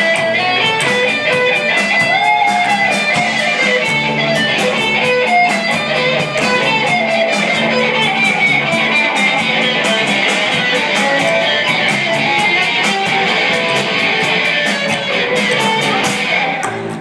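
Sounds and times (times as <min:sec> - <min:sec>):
fast drum beat: 0:00.0 - 0:16.3
strummed guitar: 0:00.0 - 0:17.0.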